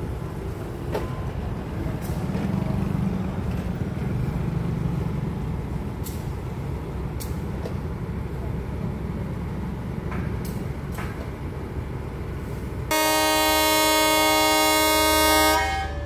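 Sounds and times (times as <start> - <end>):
locomotive engine rumbling: 0.0 - 16.0.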